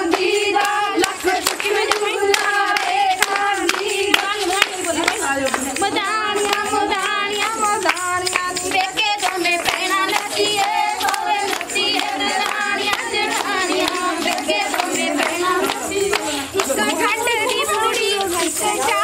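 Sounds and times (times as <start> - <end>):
rhythmic hand clapping: 0.0 - 19.0
women singing together: 0.0 - 19.0.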